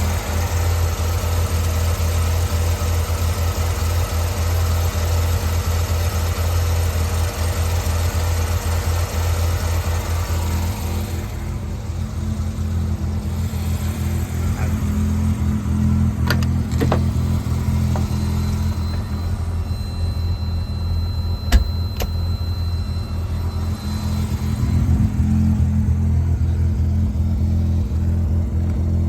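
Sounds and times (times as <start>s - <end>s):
rotary engine idling: 0.0s - 29.0s.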